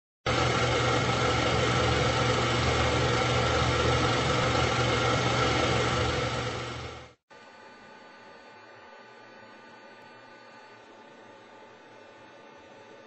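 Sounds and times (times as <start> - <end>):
machine running with low hum: 0.3 - 13.0.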